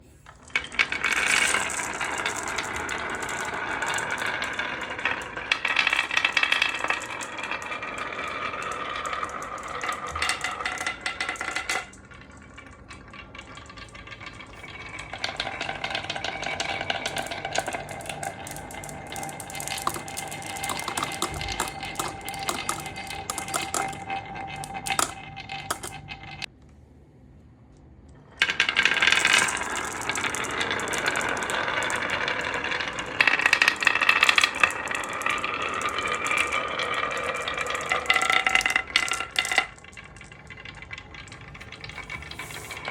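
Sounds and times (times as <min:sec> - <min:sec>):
marbles rolling and clattering: 0:00.2 - 0:26.5, 0:28.0 - 0:42.9.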